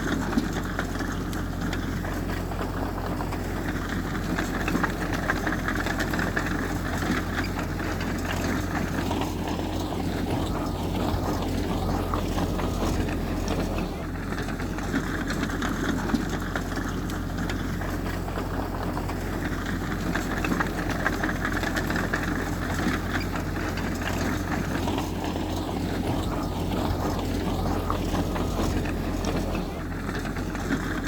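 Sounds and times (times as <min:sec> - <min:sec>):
diesel engine running: 0:00.0 - 0:31.0
light clatter: 0:00.0 - 0:31.0.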